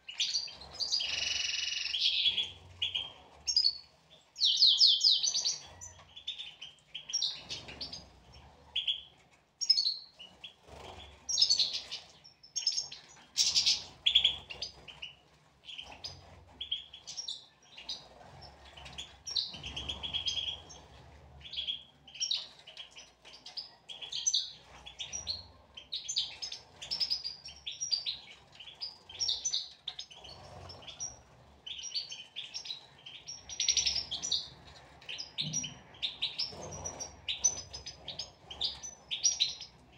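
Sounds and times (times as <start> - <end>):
finches twittering: 0.0 - 15.1, 15.7 - 39.9.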